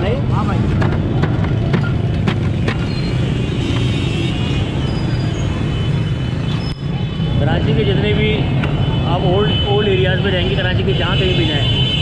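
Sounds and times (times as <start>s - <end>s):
crowd: 0.0s - 12.0s
street traffic rumble: 0.0s - 12.0s.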